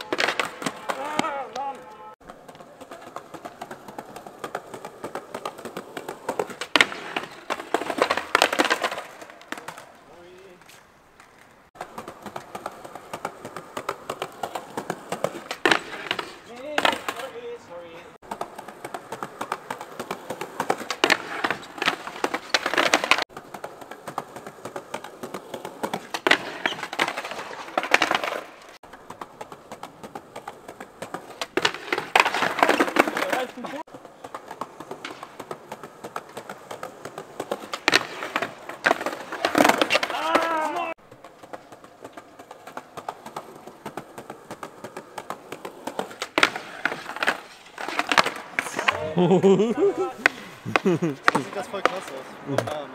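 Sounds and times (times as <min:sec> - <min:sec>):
skateboard cracks: 0:00.0 - 0:49.2, 0:50.0 - 0:52.9
skateboard wheels rolling on concrete: 0:00.0 - 0:52.9.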